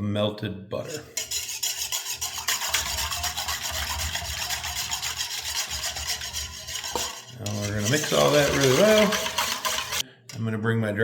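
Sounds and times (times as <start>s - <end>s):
utensil stirring batter in bowl: 0.8s - 10.0s.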